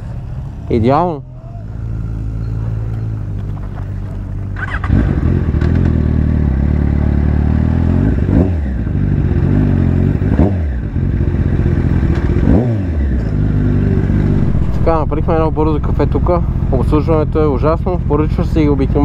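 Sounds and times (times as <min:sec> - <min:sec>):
motorcycle engine revving: 0:01.7 - 0:19.0.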